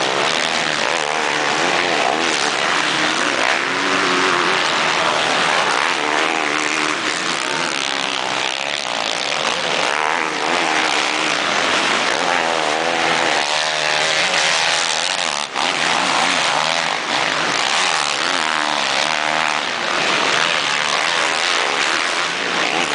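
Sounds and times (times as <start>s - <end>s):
motocross bike engines revving: 0.0s - 22.9s.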